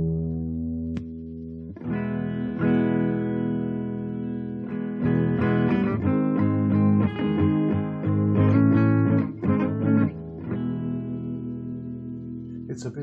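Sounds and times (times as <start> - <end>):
guitar strumming and picking: 0.0 - 13.0.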